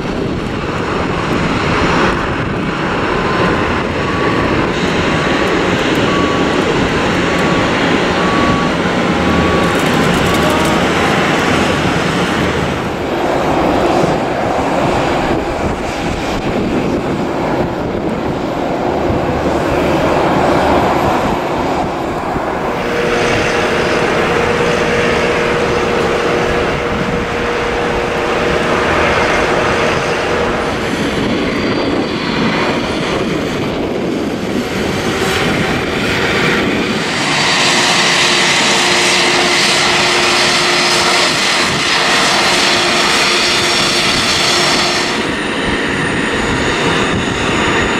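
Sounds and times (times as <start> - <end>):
jet engines running: 0.0 - 47.9
steady engine whine: 0.0 - 47.9.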